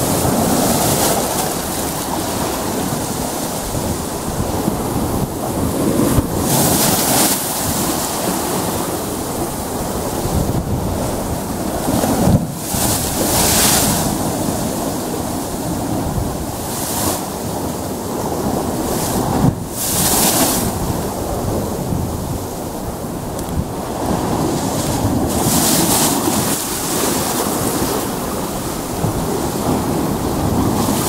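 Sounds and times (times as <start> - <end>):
sea surf on rocky shore: 0.0 - 31.0
wave crashing on rocks: 0.0 - 31.0
wind buffeting microphone: 0.0 - 31.0.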